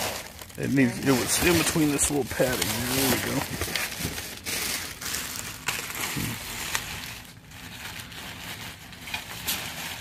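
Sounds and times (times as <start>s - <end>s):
plastic and bubble wrap rustling: 0.0s - 10.0s
sharp plastic crackles: 0.0s - 10.0s.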